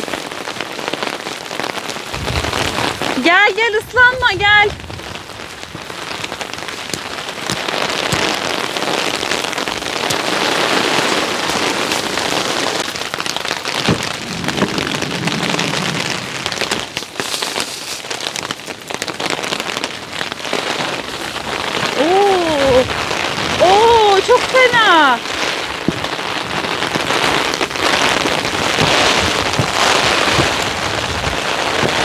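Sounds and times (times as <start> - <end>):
heavy rain: 0.0 - 32.0
raindrops clicking on surface: 0.0 - 32.0.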